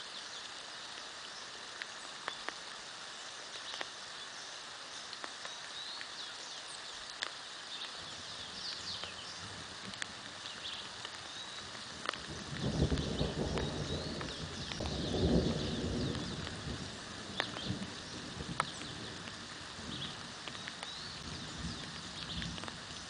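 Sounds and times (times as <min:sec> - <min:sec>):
birds chirping: 0:00.0 - 0:16.6, 0:17.3 - 0:23.0
rain falling: 0:00.0 - 0:23.0.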